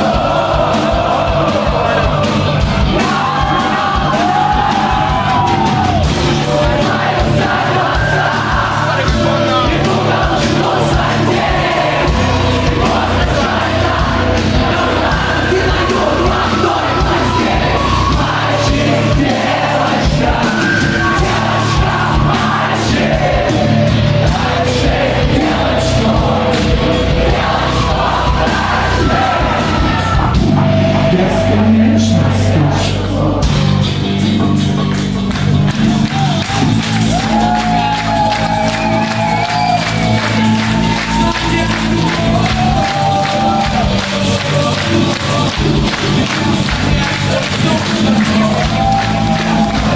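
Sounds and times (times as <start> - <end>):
person singing: 0.0 - 33.9, 35.9 - 49.9
bass guitar: 0.0 - 49.9
drums: 0.0 - 49.9.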